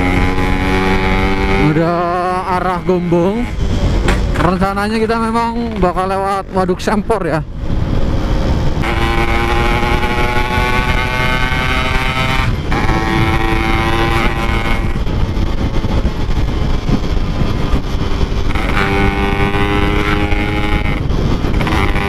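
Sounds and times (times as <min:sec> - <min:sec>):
two-stroke motorcycle engine: 0:00.0 - 0:04.5, 0:08.7 - 0:22.0
wind and road rumble: 0:00.0 - 0:22.0.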